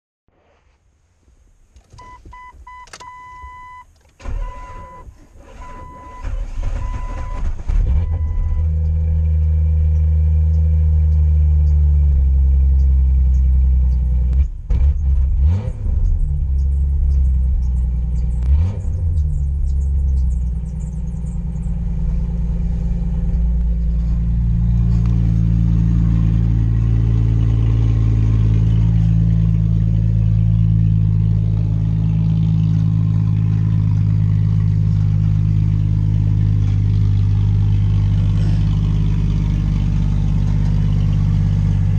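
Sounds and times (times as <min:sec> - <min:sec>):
car engine starting and idling: 0:01.2 - 0:41.9
car engine revving: 0:05.4 - 0:41.9.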